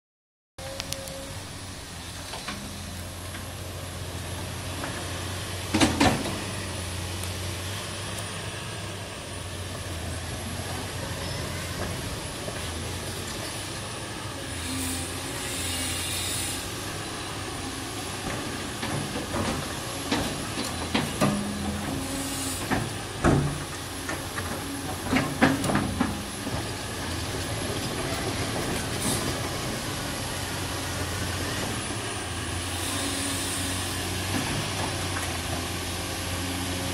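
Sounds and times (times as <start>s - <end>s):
excavator diesel engine running: 0.6s - 36.9s.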